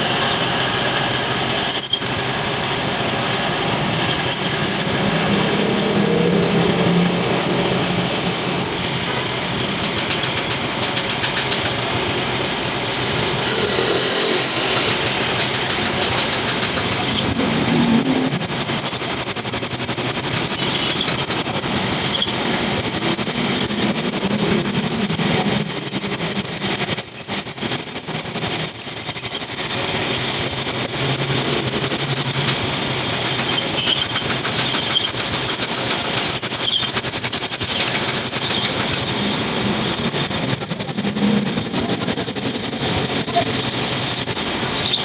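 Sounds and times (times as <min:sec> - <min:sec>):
cutting tool squealing on metal: 0:00.0 - 0:45.0
metal lathe running: 0:00.0 - 0:45.0.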